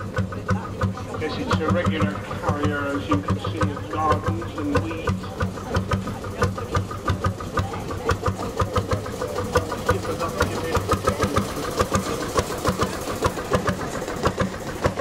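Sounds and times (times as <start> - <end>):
diesel boat engine running: 0.0 - 15.0.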